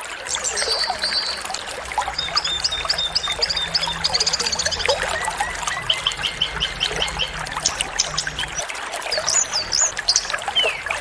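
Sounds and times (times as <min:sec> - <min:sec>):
flowing water rushing: 0:00.0 - 0:11.0
songbirds chirping: 0:00.1 - 0:11.0
bird trill: 0:00.3 - 0:08.6, 0:09.2 - 0:11.0.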